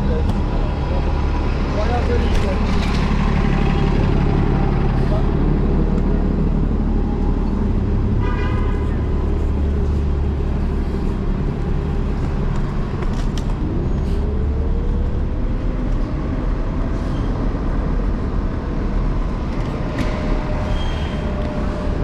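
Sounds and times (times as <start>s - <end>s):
city street traffic rumble: 0.0s - 22.0s.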